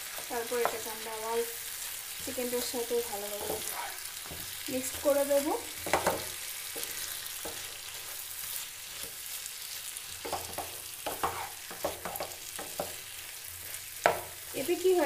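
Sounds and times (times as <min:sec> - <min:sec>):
food sizzling in a pan: 0:00.0 - 0:15.0
spatula scraping against pan: 0:01.7 - 0:09.3, 0:10.2 - 0:14.8.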